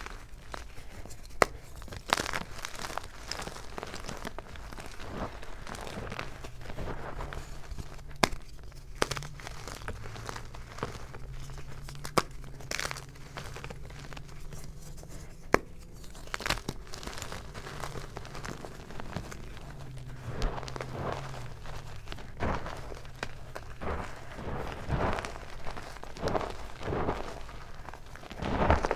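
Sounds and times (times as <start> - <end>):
chalk chunks snapping: 0.0 - 28.9
chalk crunching and crumbling: 0.0 - 28.9.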